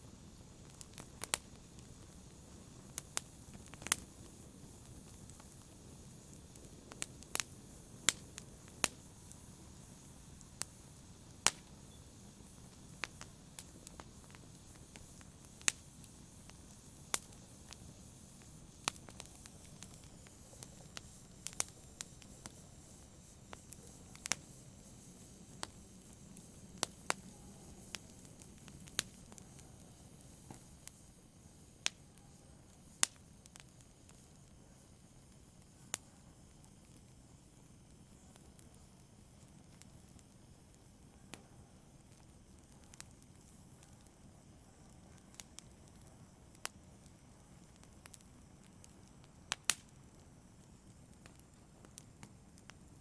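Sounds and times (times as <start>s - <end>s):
campfire crackling: 0.0s - 53.0s.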